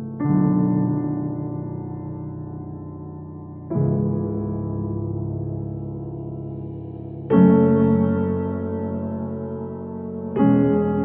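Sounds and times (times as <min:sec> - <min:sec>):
soft electric piano chords: 0:00.0 - 0:11.0.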